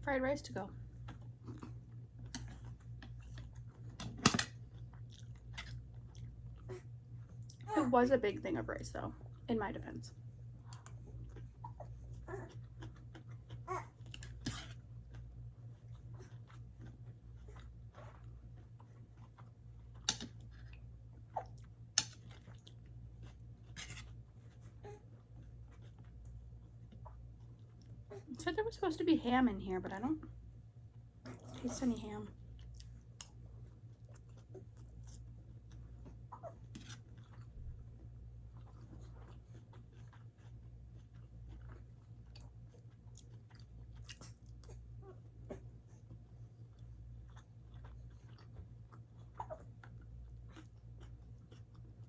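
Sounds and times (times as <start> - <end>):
close-up chewing: 0.8 - 7.7, 10.4 - 28.1, 32.4 - 52.0.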